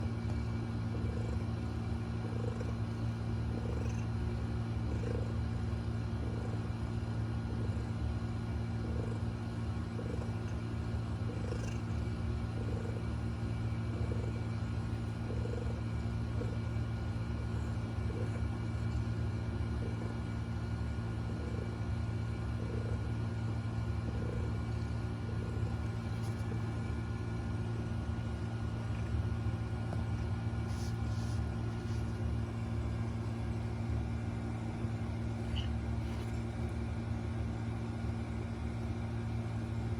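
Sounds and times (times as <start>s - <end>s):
cat snoring softly: 0.1s - 26.8s, 28.7s - 34.6s, 35.2s - 36.8s.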